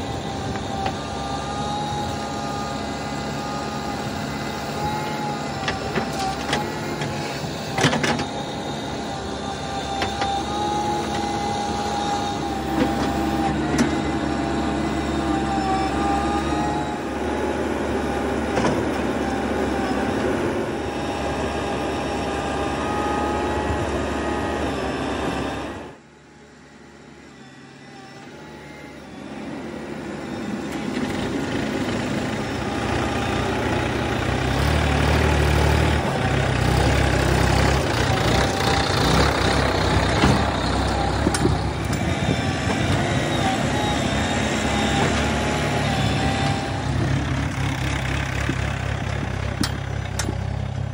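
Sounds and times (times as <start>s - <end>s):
backhoe diesel engine under load: 0.0s - 50.9s
steady mechanical whine: 0.0s - 50.9s.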